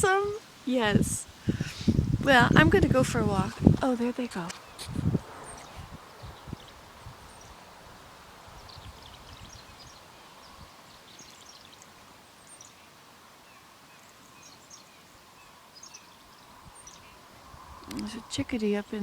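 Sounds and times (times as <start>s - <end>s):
songbirds twittering: 1.5s - 19.0s.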